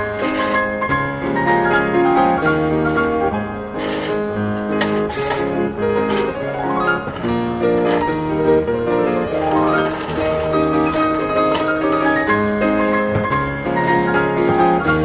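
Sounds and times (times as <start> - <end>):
piano chords and arpeggios: 0.0 - 15.0.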